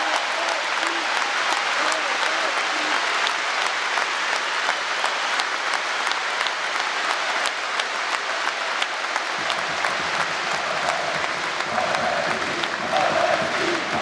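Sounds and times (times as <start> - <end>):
stadium crowd applauding: 0.0 - 14.0.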